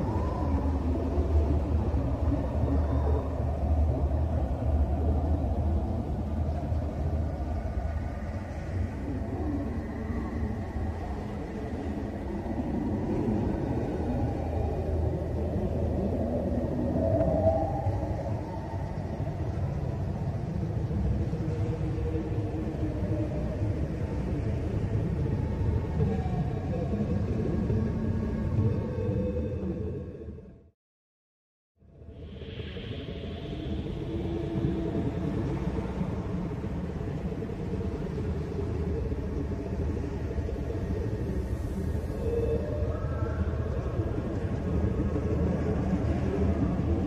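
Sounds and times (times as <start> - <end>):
faint humming tones: 0.0 - 30.6, 31.9 - 47.0.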